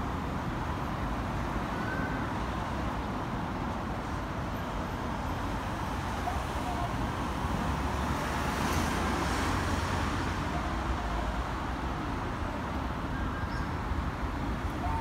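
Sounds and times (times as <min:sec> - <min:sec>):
road traffic passing cars: 0:00.0 - 0:15.0.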